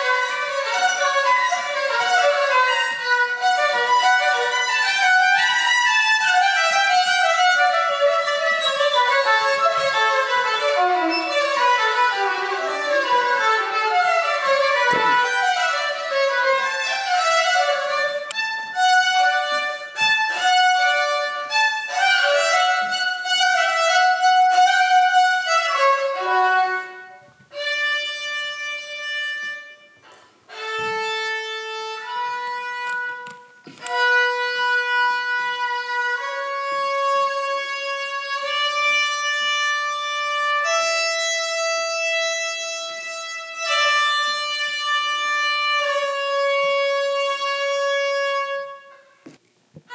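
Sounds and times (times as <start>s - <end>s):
solo violin melody: 0.0s - 49.9s.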